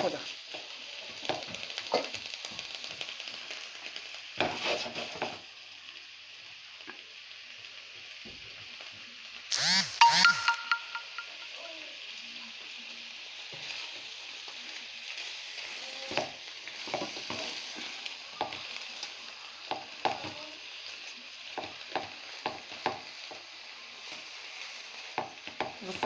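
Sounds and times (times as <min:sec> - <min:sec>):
shrimp sizzling in a frying pan: 0:00.0 - 0:10.1, 0:11.2 - 0:26.0.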